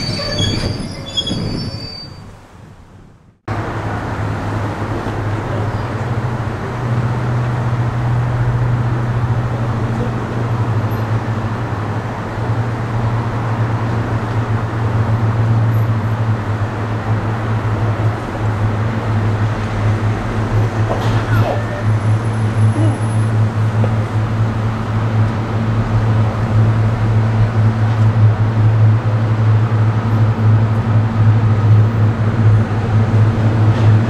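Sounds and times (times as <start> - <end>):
diesel locomotive engine humming: 0.0 - 34.0.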